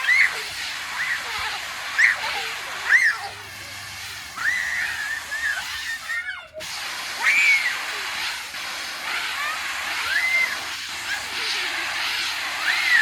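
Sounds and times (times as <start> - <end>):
children squealing: 0.0 - 13.0
water hissing from spray nozzles: 0.0 - 13.0.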